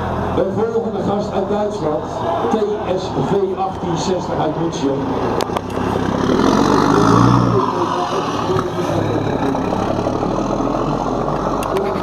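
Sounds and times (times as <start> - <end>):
truck diesel engine passing: 0.0 - 12.0.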